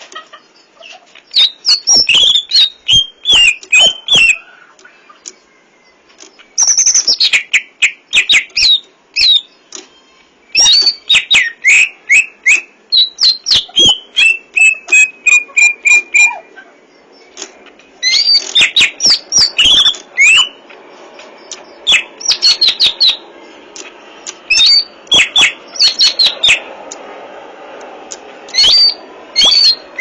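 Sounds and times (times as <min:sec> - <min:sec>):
bird singing whistles and clicks: 0:01.3 - 0:05.5, 0:06.1 - 0:16.5, 0:17.2 - 0:23.2, 0:23.8 - 0:27.0, 0:28.1 - 0:30.0.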